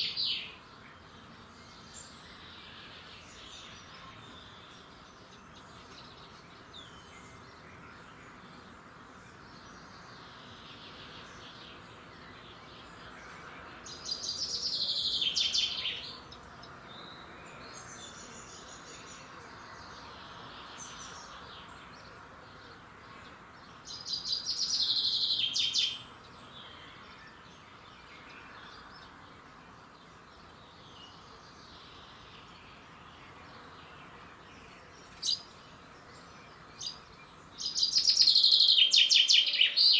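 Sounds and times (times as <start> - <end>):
faint background hiss: 0.0 - 39.9
songbird singing: 0.0 - 39.9.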